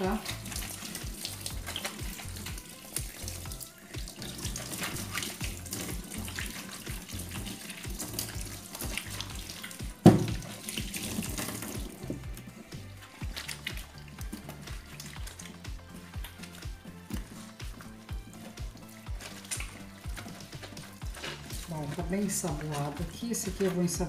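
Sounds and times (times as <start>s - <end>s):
cloth scrubbing: 0.0s - 24.0s
tap water running into sink: 0.0s - 24.0s.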